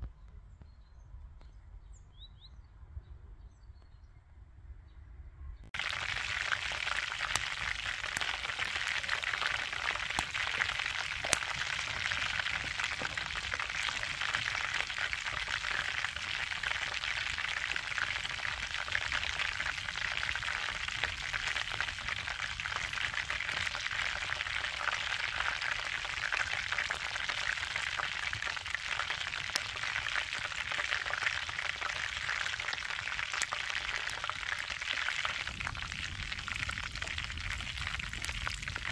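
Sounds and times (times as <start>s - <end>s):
chicken frying in hot oil: 5.7s - 38.9s.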